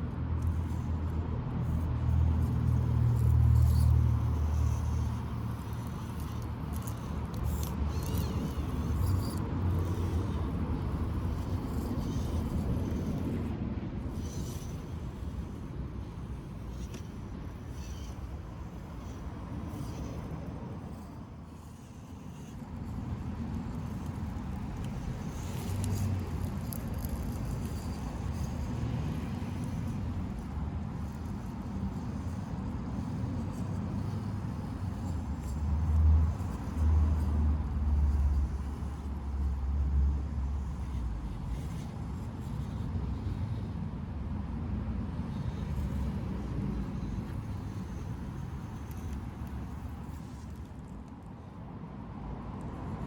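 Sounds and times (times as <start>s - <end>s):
small electric motor rumbling: 0.0s - 52.0s, 52.6s - 53.0s.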